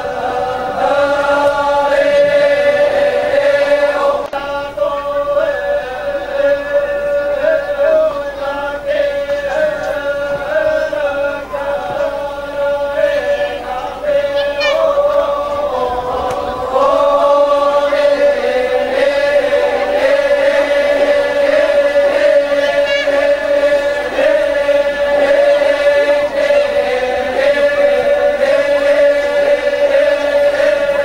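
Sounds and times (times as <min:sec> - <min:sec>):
group chanting a drone: 0:00.0 - 0:31.0.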